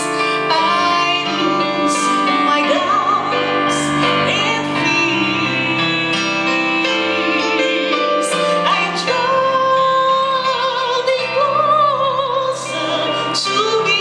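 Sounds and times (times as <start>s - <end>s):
instrumental accompaniment: 0.0s - 14.0s
woman singing a hymn: 0.0s - 14.0s.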